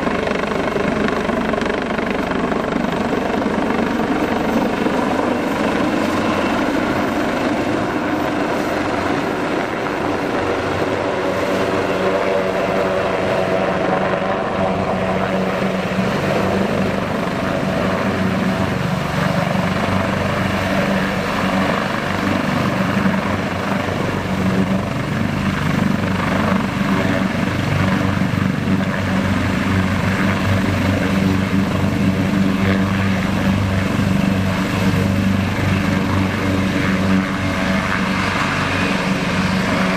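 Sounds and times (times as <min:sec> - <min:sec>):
helicopter rotors and turbines running: 0:00.0 - 0:39.9.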